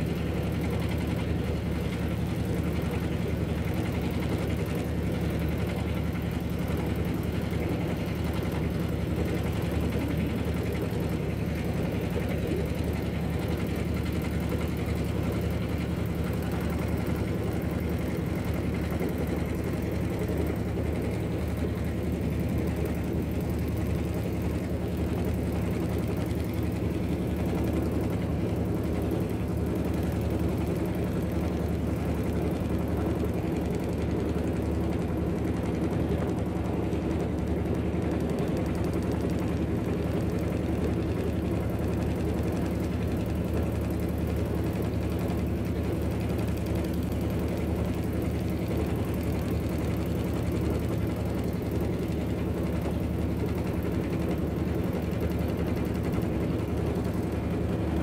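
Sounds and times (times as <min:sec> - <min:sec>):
boat engine droning: 0:00.0 - 0:58.0
constant rushing noise: 0:00.0 - 0:58.0.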